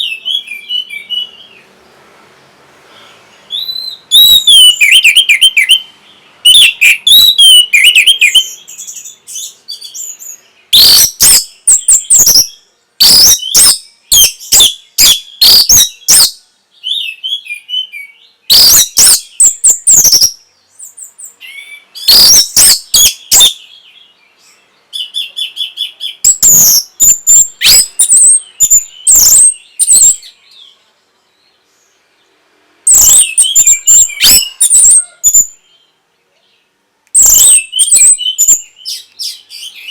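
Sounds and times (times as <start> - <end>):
thrush whistled song: 0.0 - 1.6, 3.0 - 30.6, 32.9 - 35.6, 37.1 - 39.9
sharp rattling bird calls: 2.9 - 30.6, 32.9 - 35.8, 37.1 - 39.9.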